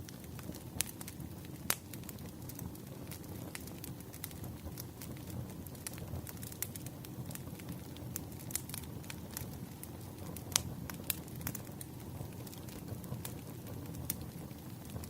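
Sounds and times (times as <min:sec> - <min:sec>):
fire pops and snaps: 0:00.0 - 0:15.0
low rumble of burning logs: 0:00.0 - 0:15.0
wood fire crackling: 0:00.0 - 0:15.0.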